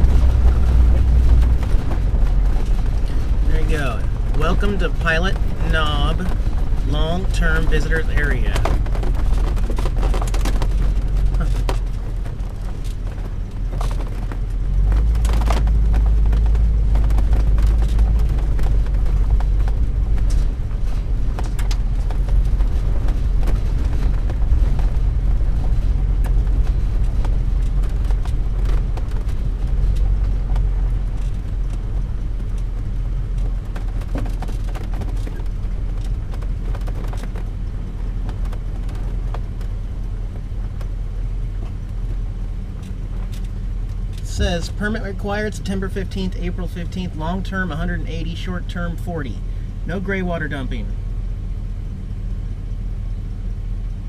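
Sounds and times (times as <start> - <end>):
cab rattles and knocks: 0.0 - 44.3
vehicle engine rumble: 0.0 - 54.0.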